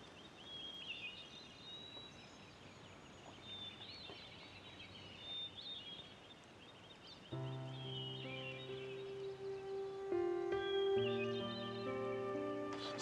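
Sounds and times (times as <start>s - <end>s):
faint birds chirping: 0.0s - 13.0s
low steady outdoor hiss: 0.0s - 13.0s.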